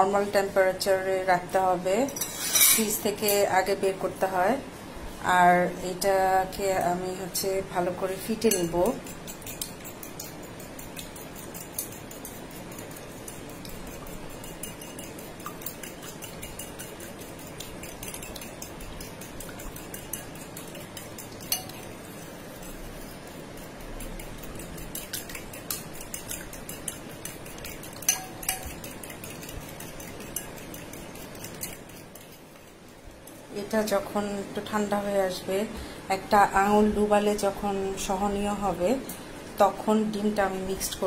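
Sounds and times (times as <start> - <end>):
fork beating eggs in a bowl: 0.1 - 4.6, 5.8 - 41.0.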